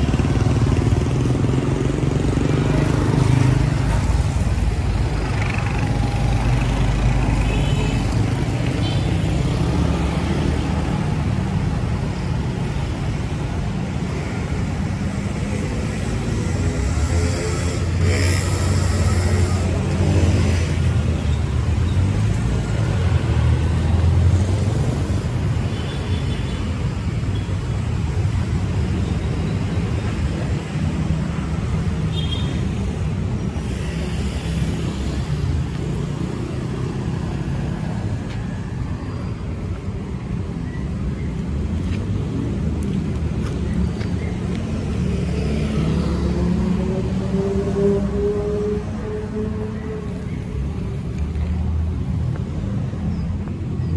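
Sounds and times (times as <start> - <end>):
passing traffic: 0.0 - 53.9.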